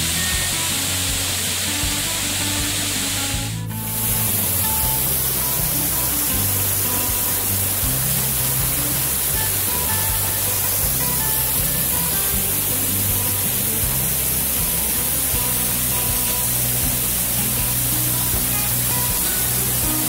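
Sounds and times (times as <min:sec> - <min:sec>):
low sustained music notes: 0:00.0 - 0:20.0.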